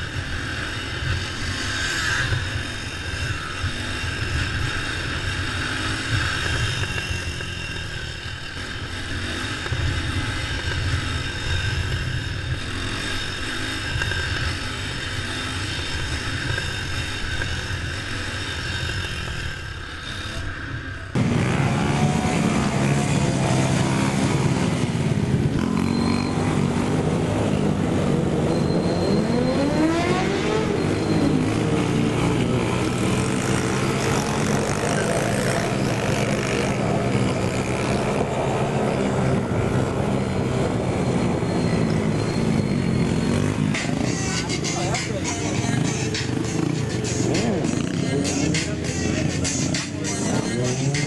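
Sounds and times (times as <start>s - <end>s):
mini-bike engines revving: 0.0s - 51.0s.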